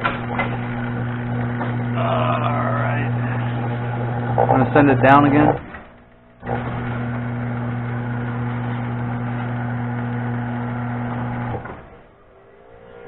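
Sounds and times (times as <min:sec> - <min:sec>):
garage door opener motor humming: 0:00.0 - 0:13.0.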